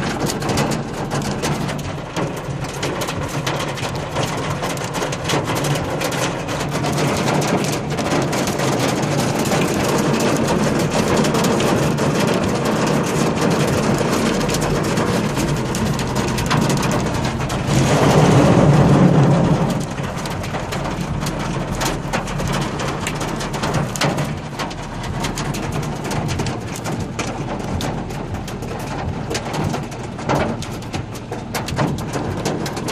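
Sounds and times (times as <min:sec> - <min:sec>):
hail pelting down: 0:00.0 - 0:32.9
low rumble: 0:00.0 - 0:32.9.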